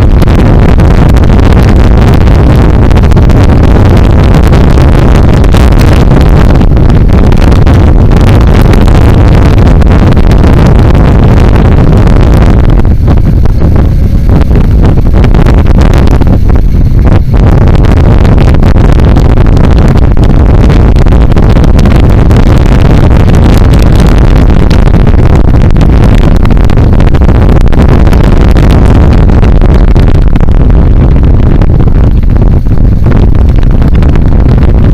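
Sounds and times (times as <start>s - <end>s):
wind and road noise rushing: 0.0s - 34.9s.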